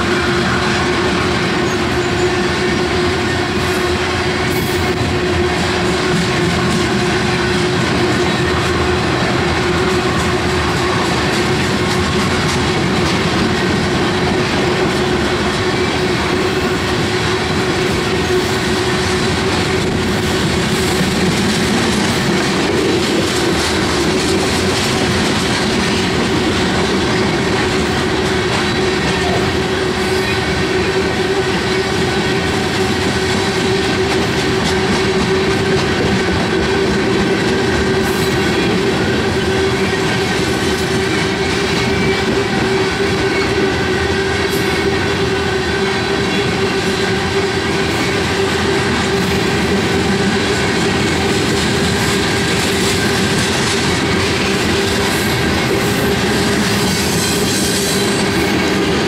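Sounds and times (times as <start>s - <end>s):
rail clicking: 0.0s - 59.0s
train wheels rumbling on rails: 0.0s - 59.0s.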